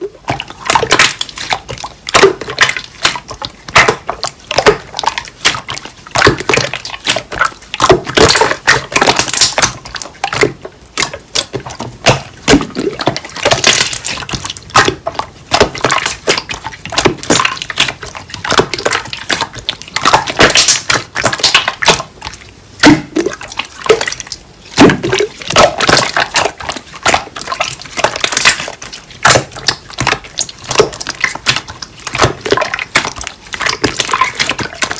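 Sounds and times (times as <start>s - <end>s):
slime squished by hand: 0.0s - 34.9s.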